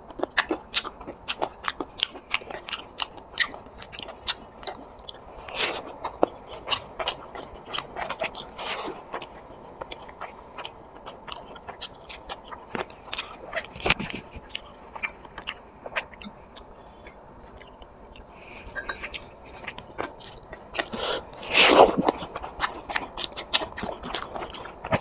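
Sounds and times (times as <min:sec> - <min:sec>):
biting and chewing: 0:00.0 - 0:25.0.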